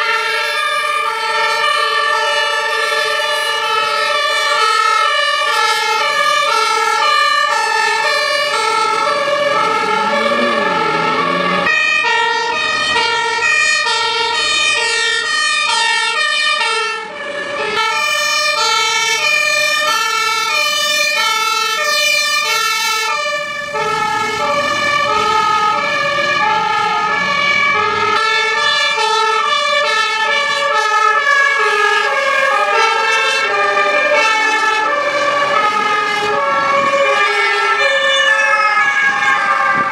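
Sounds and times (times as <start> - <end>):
fire engine two-tone siren: 0.0 - 39.9.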